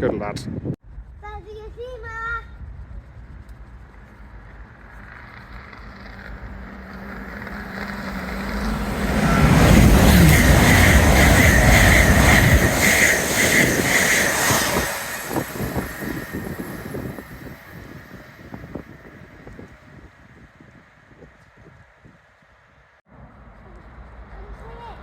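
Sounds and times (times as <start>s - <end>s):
train passing: 0.8s - 25.0s
wheels beating on rails: 0.8s - 25.0s.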